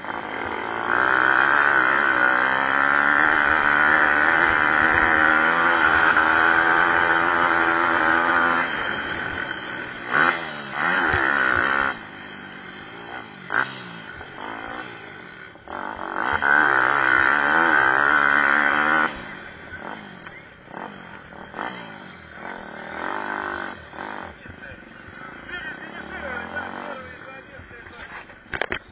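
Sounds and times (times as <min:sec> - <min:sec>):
pit bike engines revving: 0:00.0 - 0:28.9.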